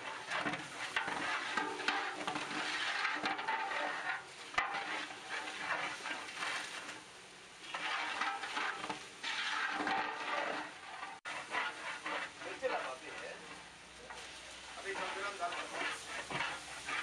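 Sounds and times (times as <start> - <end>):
food bubbling and sizzling: 0.0 - 17.0
metal ladle scraping pot: 0.0 - 17.0.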